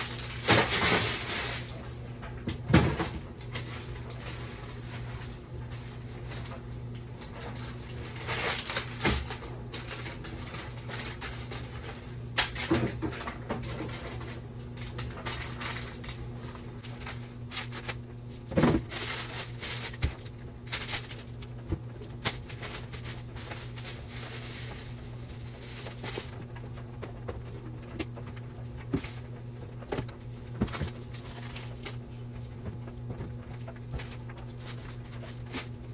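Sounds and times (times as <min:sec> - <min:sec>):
plastic bag rustling: 0:00.0 - 0:01.9, 0:03.0 - 0:13.0, 0:13.6 - 0:26.8, 0:28.8 - 0:29.3, 0:29.9 - 0:32.4, 0:33.1 - 0:35.9
refrigerator hum: 0:00.0 - 0:35.9.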